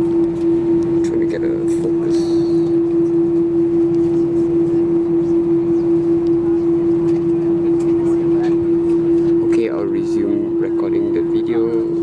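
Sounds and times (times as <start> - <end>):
constant humming tone: 0.0 - 12.0
jet engines idling: 0.0 - 12.0.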